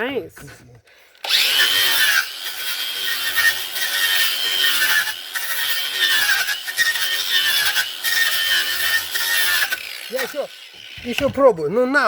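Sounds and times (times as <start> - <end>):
power sander on wood: 1.2 - 12.0.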